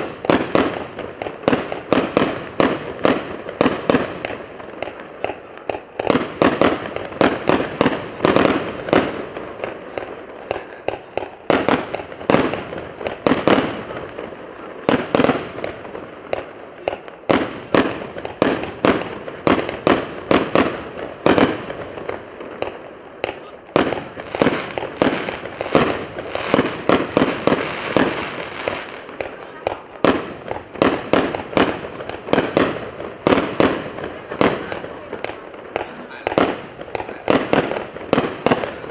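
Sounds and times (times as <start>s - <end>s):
fireworks cake firing: 0.0s - 38.9s.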